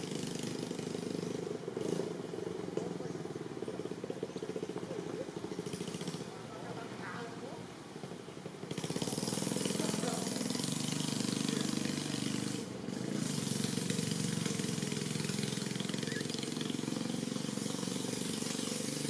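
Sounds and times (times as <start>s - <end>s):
engine running with low pulsing: 0.0s - 19.0s.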